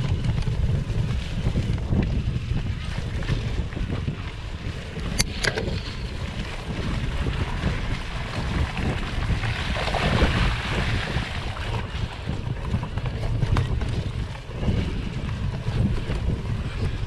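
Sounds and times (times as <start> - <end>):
bike rumbling over rutted track: 0.0 - 17.0
wind buffeting microphone: 0.0 - 17.0.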